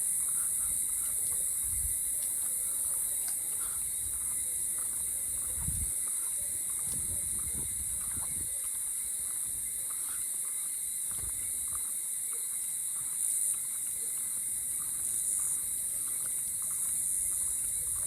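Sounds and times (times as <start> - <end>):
insects trilling: 0.0 - 18.0
short insect calls: 0.0 - 18.0.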